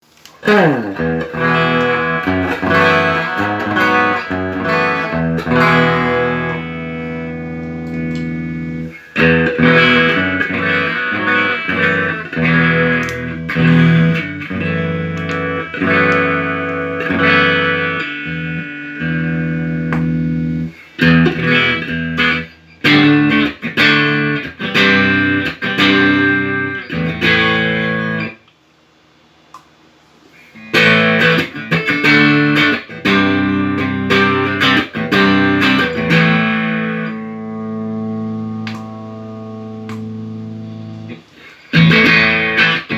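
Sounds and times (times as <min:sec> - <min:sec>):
electric guitar chords and notes: 0:00.2 - 0:28.4, 0:30.4 - 0:42.9.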